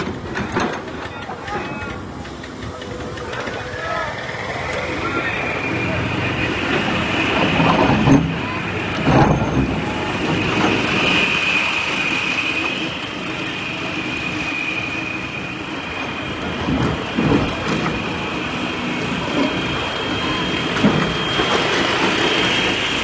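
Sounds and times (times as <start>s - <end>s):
excavator engine whining: 0.0s - 23.0s.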